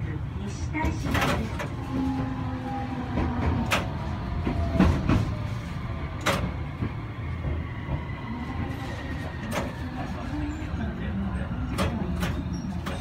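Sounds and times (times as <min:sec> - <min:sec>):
tram running rumble: 0:00.0 - 0:13.0.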